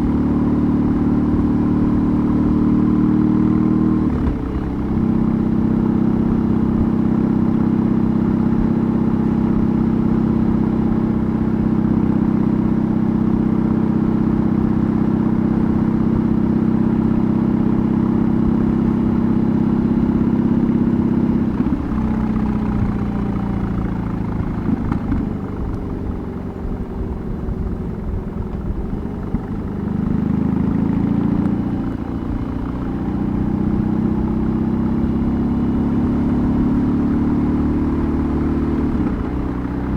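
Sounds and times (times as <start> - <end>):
motorcycle exhaust note: 0.8 - 39.9.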